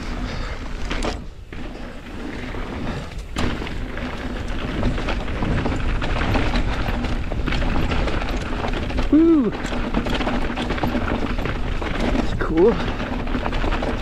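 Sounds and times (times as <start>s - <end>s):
bike rattling: 0.0s - 14.0s
tyre noise on dirt: 0.0s - 14.0s
wind rumbling on microphone: 0.0s - 14.0s.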